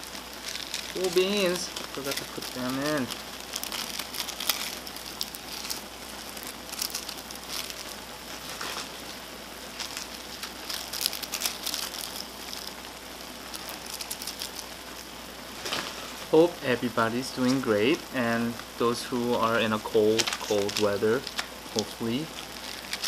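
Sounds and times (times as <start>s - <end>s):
dry flakes crackling: 0.0s - 23.0s
plastic sachets crinkling: 0.0s - 23.0s.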